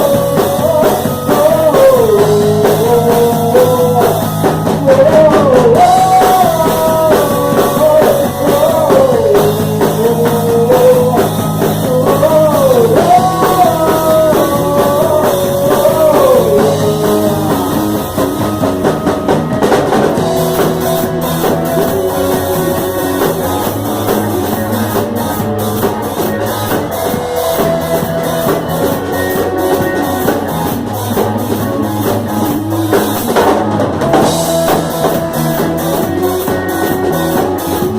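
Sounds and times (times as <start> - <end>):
lead guitar melody bending: 0.0 - 37.9
live rock band playing: 0.0 - 37.9.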